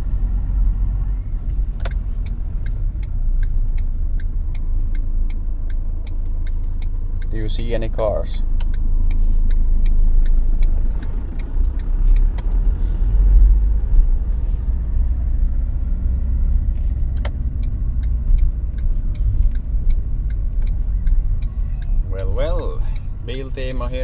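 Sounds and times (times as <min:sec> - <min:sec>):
car engine and road rumble: 0:00.0 - 0:24.0
regular short ticks: 0:01.8 - 0:12.7, 0:13.4 - 0:23.8.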